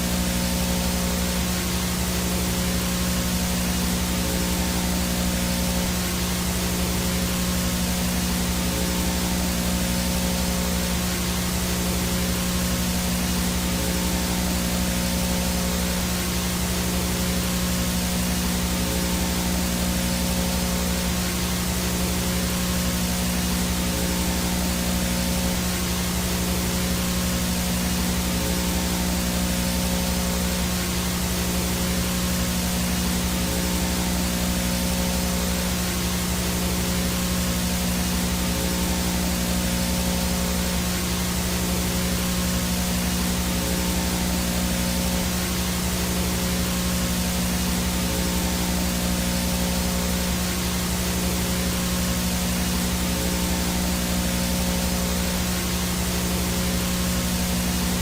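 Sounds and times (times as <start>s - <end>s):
low hum: 0.0s - 58.0s
video static hiss: 0.0s - 58.0s.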